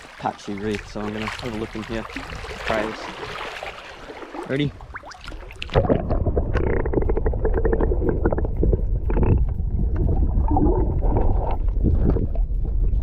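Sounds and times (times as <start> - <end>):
muffled underwater water rumble: 0.0 - 13.0.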